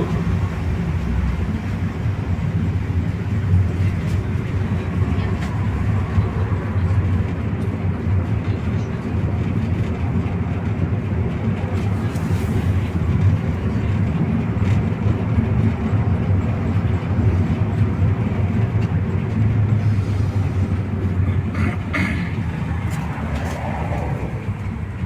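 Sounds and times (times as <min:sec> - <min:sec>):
bus engine drone: 0:00.0 - 0:25.0
road and body rumble: 0:00.0 - 0:25.0.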